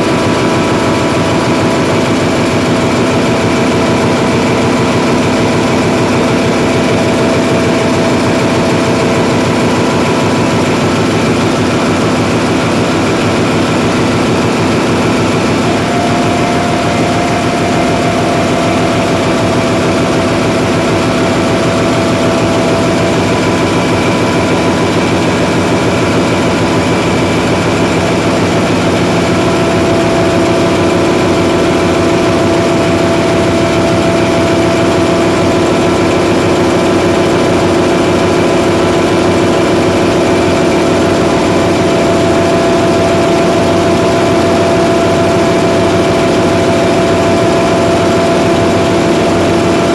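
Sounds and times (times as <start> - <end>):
diesel generator engine running: 0.0 - 49.9.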